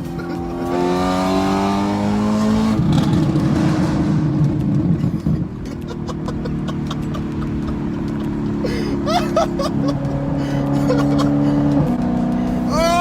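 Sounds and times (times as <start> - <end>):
car engine off throttle: 0.0 - 12.7
exhaust crackles: 1.0 - 12.7.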